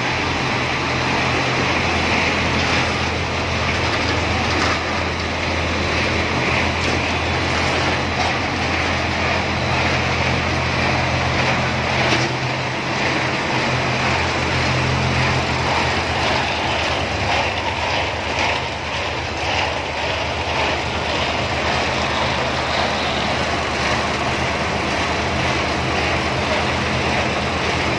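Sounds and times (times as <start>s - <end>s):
conveyor machinery noise: 0.0s - 27.9s
low motor hum: 0.0s - 27.9s.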